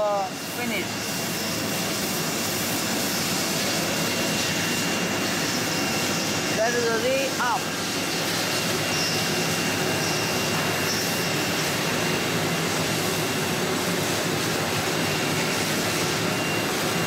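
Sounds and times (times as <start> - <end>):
machinery rushing noise: 0.0 - 17.0.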